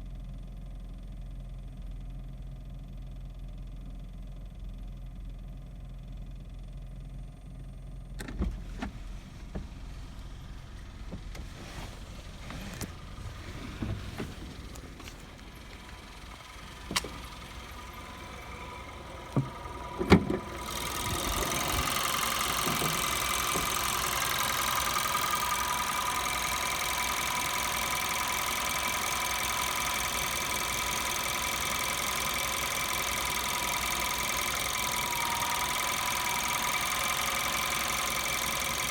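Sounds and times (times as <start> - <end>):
car engine starting and idling: 1.6 - 38.9.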